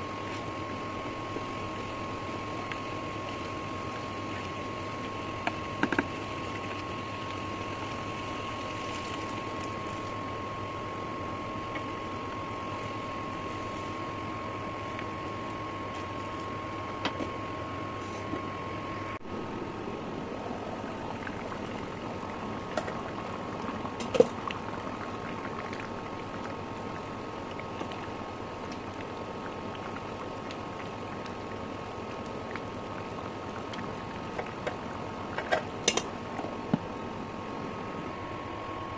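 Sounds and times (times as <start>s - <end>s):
induction cooker whine: 0.0s - 38.9s
curry bubbling in a pan: 0.2s - 16.9s, 20.6s - 36.8s.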